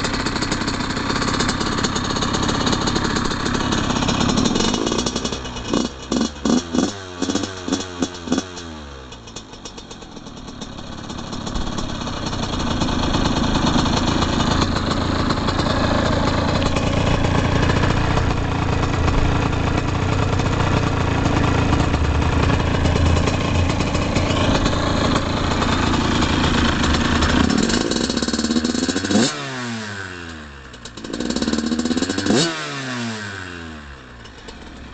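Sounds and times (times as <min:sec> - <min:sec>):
dirt bike engine revving: 0:00.0 - 0:09.0, 0:10.9 - 0:34.6.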